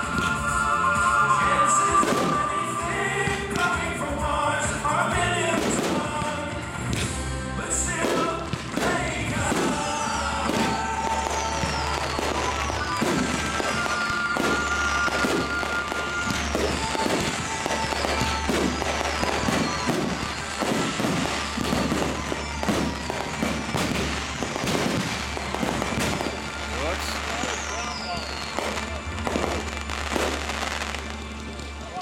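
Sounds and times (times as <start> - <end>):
fireworks pops and bangs: 0.0 - 32.0
music with long held notes: 0.0 - 32.0.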